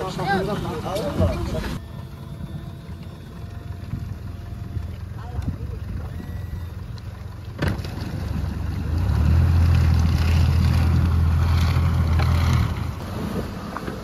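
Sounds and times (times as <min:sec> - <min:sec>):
water churning in wake: 0:00.0 - 0:12.0, 0:12.6 - 0:14.0
outboard motor running hard: 0:00.0 - 0:14.0.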